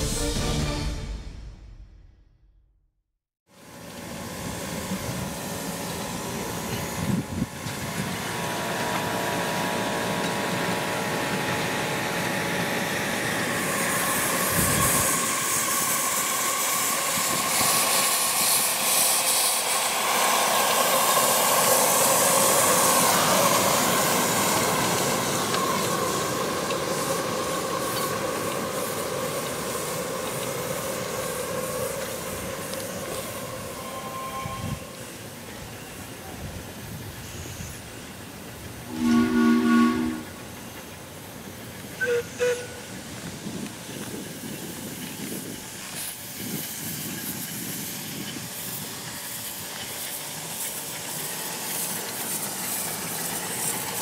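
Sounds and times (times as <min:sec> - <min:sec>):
steam hissing: 0:03.8 - 0:54.0.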